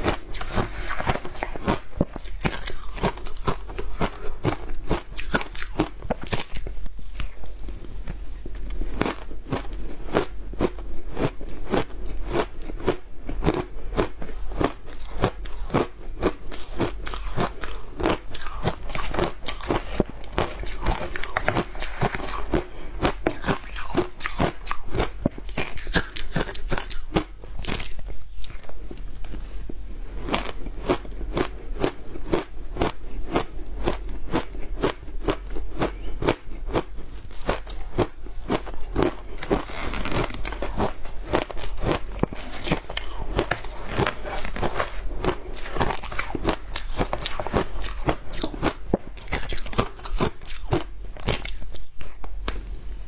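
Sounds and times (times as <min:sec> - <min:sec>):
ice being crunched by chewing: 0:00.0 - 0:29.4, 0:30.2 - 0:52.6.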